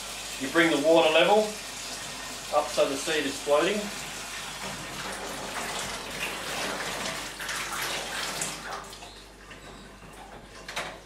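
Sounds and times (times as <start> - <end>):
tap water running into bucket: 0.0 - 9.6.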